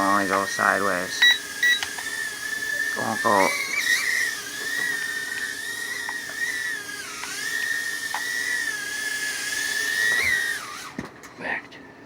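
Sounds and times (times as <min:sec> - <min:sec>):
toy drone motors whining: 0:00.0 - 0:11.0.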